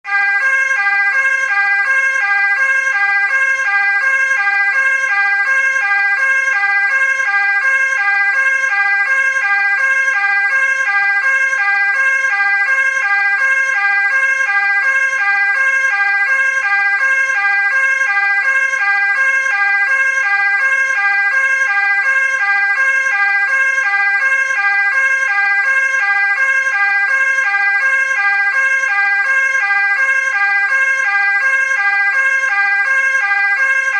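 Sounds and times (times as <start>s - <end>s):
ambulance two-tone siren: 0.0s - 33.9s.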